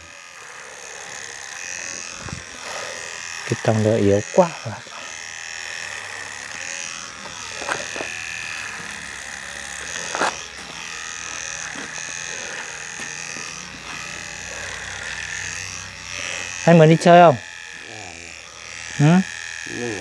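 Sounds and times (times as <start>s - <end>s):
electric hair clipper buzzing: 0.0s - 20.0s.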